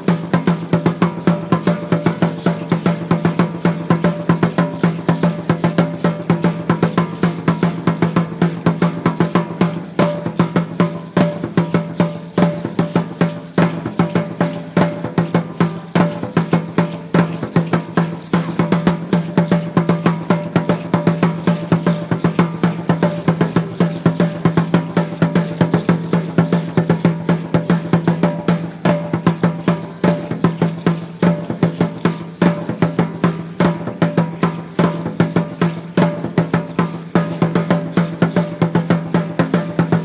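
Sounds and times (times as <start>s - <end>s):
drums beating fast rhythm: 0.0s - 40.0s.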